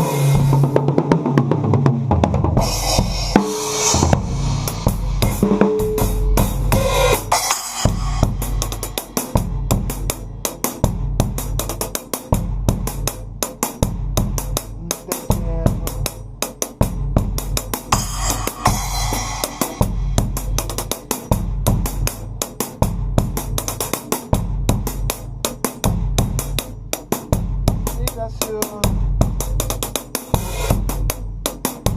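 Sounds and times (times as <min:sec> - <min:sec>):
backing track with bass line: 0:00.0 - 0:23.8, 0:24.4 - 0:29.7
acoustic drum kit groove: 0:00.0 - 0:31.9.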